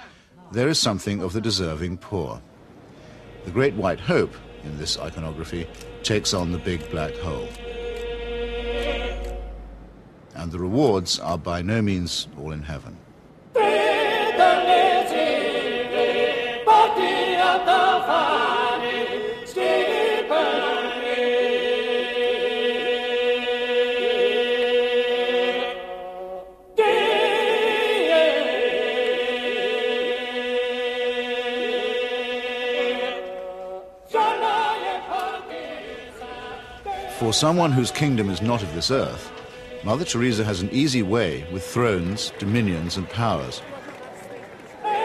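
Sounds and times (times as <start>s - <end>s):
choir singing chant: 2.9s - 10.0s, 13.5s - 45.0s.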